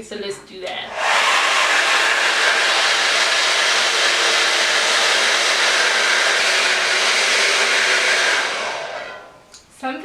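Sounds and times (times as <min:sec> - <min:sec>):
hair dryer running: 0:00.9 - 0:09.6.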